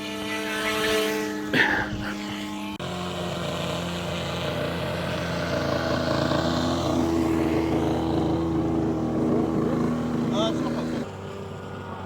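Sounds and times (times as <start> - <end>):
model boat motors running: 0.0 - 12.0.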